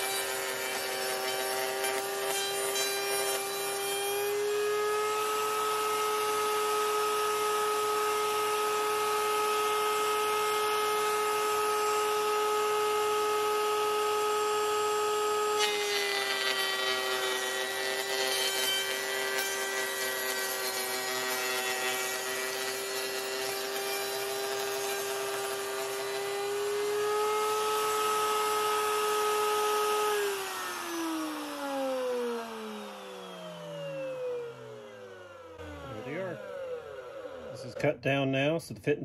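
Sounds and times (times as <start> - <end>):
router cutting wood whine: 0.0 - 38.6.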